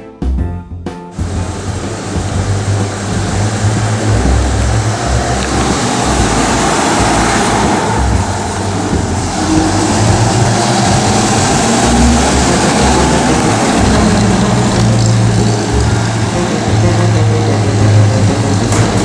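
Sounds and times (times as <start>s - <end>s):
low rumble: 0.4s - 19.0s
pickup truck engine and road noise: 1.2s - 19.0s.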